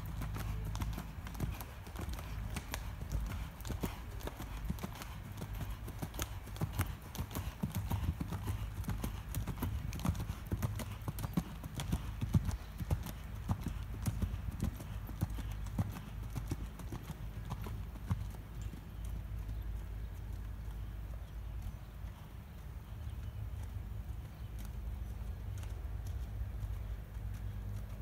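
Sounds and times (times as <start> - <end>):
hoofbeats on sand: 0.0 - 28.0
low steady rumble: 0.0 - 28.0.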